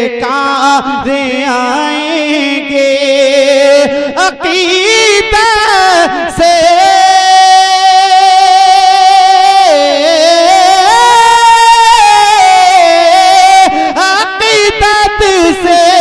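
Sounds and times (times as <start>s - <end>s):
person chanting a drawn-out vowel: 0.0s - 16.0s.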